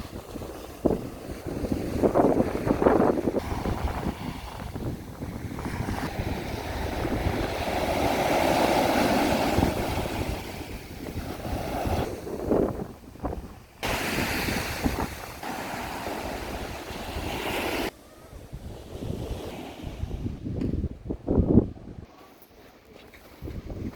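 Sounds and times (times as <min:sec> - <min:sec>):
small waves washing on sand: 0:00.0 - 0:18.0, 0:18.6 - 0:20.4
wind buffeting microphone: 0:00.0 - 0:22.1, 0:23.2 - 0:23.9.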